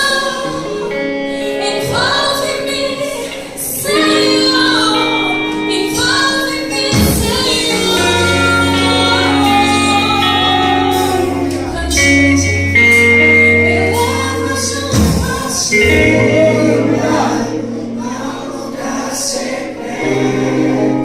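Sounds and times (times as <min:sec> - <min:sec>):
choir singing: 0:00.0 - 0:21.0
instrumental accompaniment: 0:03.9 - 0:21.0.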